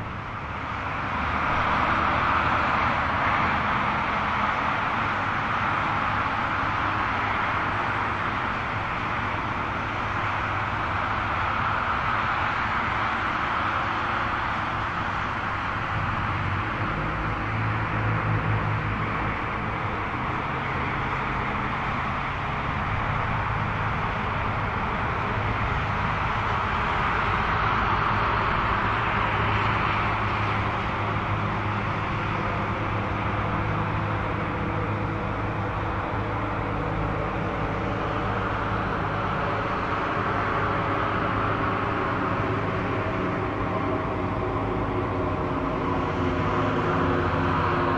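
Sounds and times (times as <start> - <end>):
jet engine roar with whine: 0.0 - 47.9.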